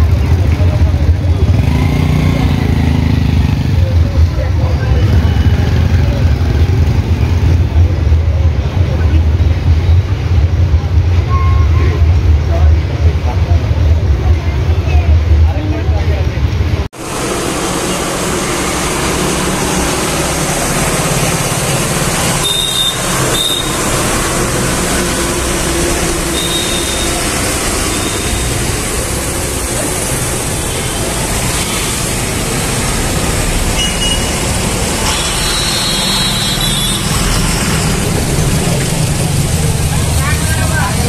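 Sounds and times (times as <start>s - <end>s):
heavy truck engines running: 0.0s - 41.0s
road noise: 0.0s - 41.0s.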